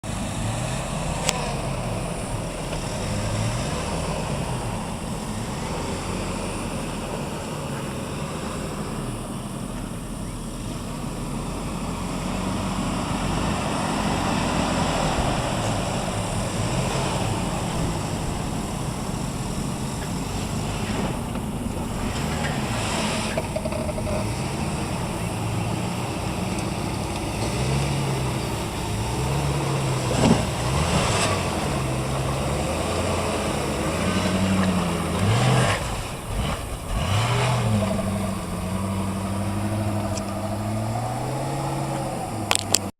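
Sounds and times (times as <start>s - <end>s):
car engine revving in mud: 0.0s - 42.9s.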